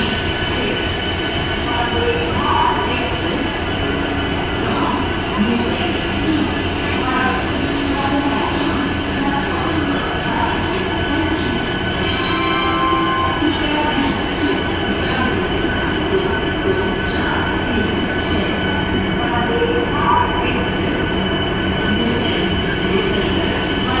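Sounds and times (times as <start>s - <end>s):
train coaches rumbling on rails: 0.0s - 24.0s.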